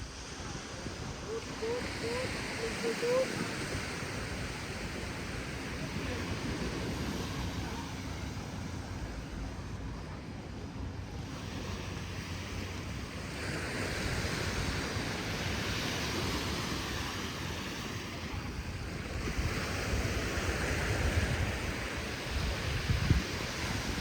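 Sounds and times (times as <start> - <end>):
surf washing onto beach: 0.0 - 24.0
wind rumbling on microphone: 0.0 - 24.0.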